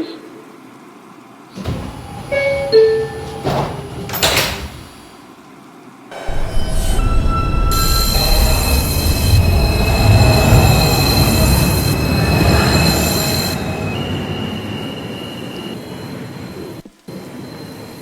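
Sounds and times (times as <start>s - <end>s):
high squealing of train wheels: 1.6s - 5.2s, 6.2s - 18.0s
train wheels rumbling on rails: 1.6s - 5.2s, 6.2s - 18.0s.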